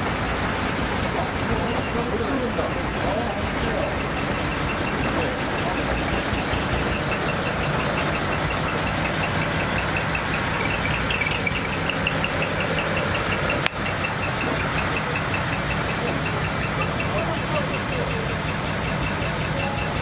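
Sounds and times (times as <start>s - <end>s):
diesel truck engine idling: 0.0s - 20.0s
light ticking: 0.0s - 20.0s.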